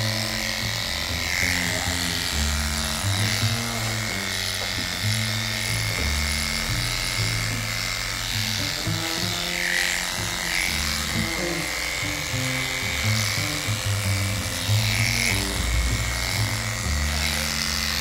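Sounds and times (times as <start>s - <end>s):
background music with bass line: 0.0s - 18.0s
dog clipper whirring: 0.0s - 18.0s.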